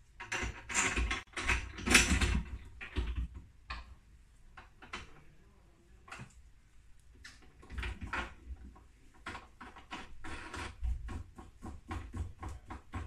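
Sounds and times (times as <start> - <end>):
clicks and knocks of fittings: 0.0 - 5.2, 7.1 - 13.0.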